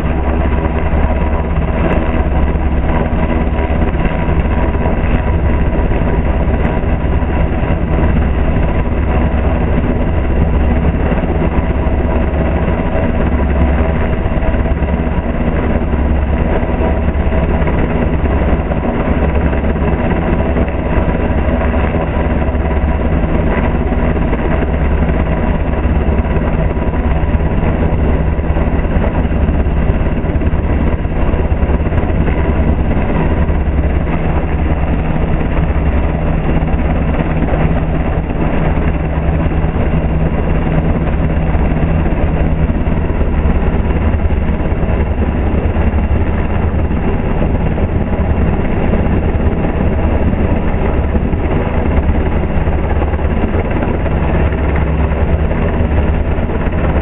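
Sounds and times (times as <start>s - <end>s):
helicopter rotor beat: 0.0s - 57.0s
turbine engine drone: 0.0s - 57.0s.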